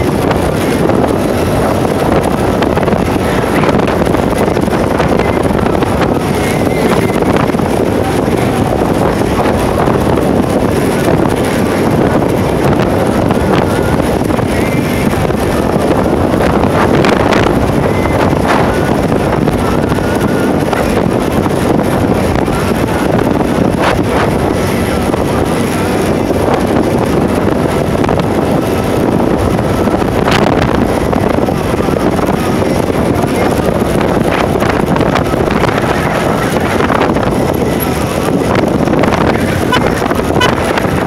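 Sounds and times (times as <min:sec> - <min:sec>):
motorcycle engine: 0:00.0 - 0:41.0
road noise: 0:00.0 - 0:41.0
wind rushing over microphone: 0:00.0 - 0:41.0.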